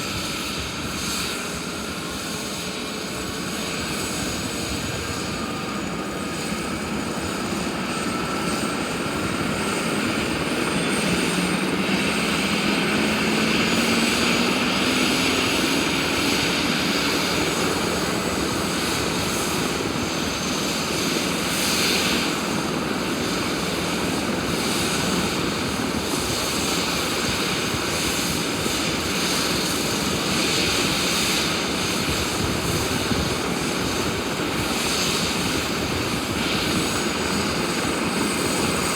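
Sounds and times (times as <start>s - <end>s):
helicopter turbine engines and rotor: 0.0s - 38.9s
rising turbine whine: 0.0s - 38.9s.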